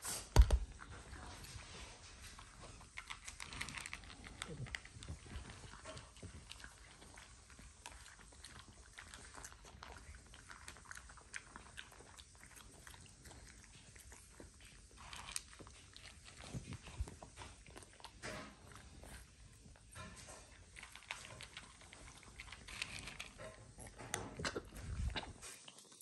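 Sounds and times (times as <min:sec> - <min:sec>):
puppy crunching dry kibble: 0:00.4 - 0:26.0.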